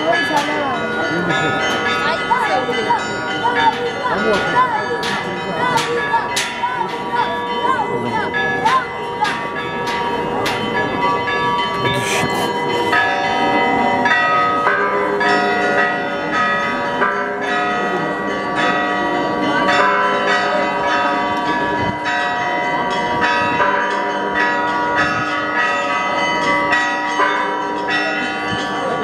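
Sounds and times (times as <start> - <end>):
church bells pealing: 0.0 - 29.0.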